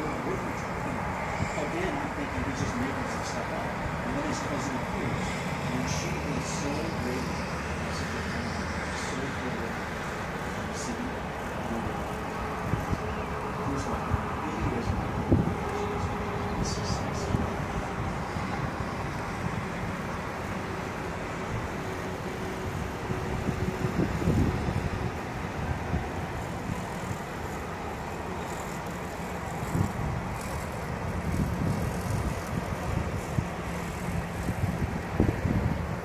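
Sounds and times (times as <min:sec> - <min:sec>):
wind and road noise: 0:00.0 - 0:36.0.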